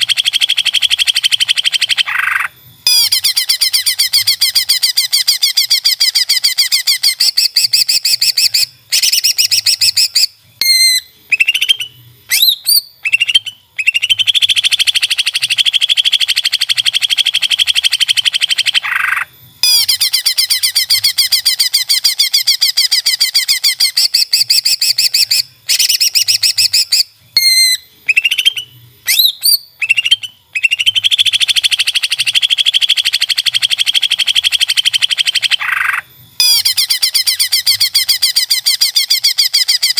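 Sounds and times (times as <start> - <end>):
bird song trills: 0.0 - 39.9
bird whistles: 0.0 - 39.9.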